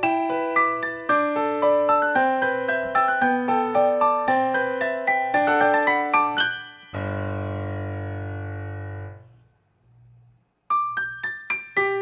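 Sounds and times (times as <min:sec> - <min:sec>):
piano music: 0:00.0 - 0:09.4, 0:10.7 - 0:12.0.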